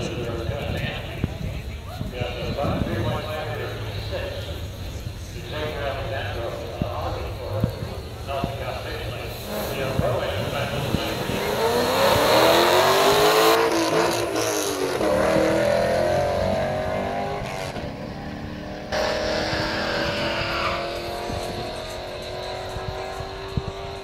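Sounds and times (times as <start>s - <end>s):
car engines accelerating hard: 0.0s - 24.0s.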